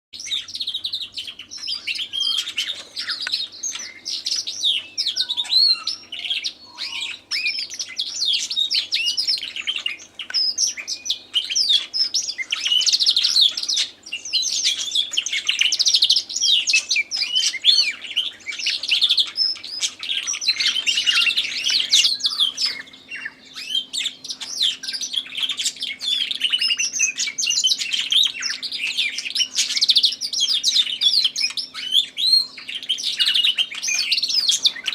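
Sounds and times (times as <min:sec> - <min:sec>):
bird singing in background: 0:00.2 - 0:34.9
canary singing warbling trills: 0:00.2 - 0:34.9.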